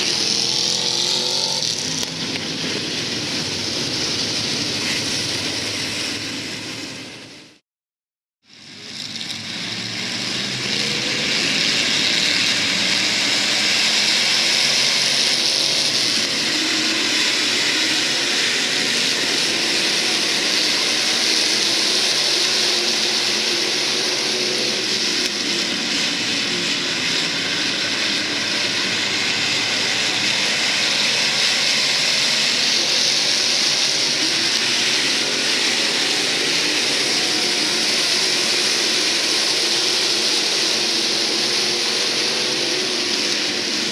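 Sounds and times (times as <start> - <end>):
race car engines droning: 0.0 - 7.6, 8.5 - 43.9.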